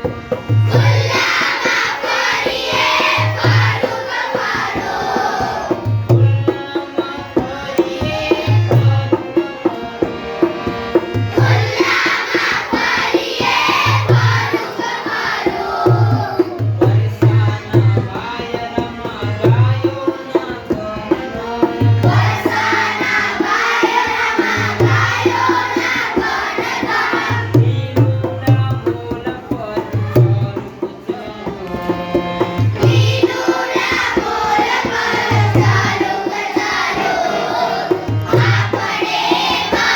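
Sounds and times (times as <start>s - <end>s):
tabla rhythm: 0.0s - 39.9s.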